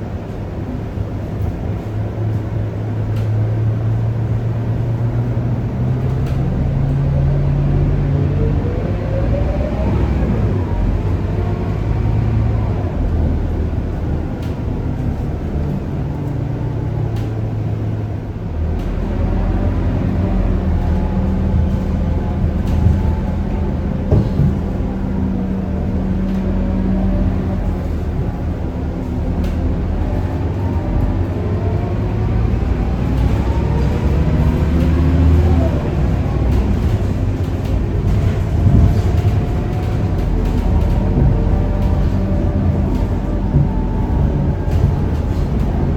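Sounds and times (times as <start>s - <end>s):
bus engine low drone: 0.0s - 45.9s.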